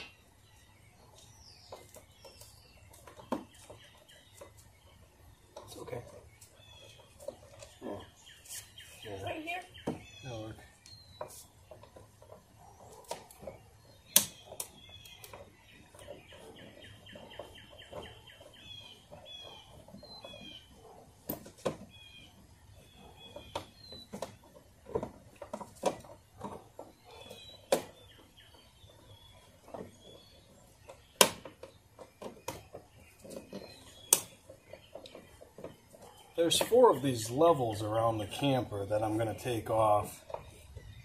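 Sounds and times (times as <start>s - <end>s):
songbird chirping: 0.0s - 41.0s.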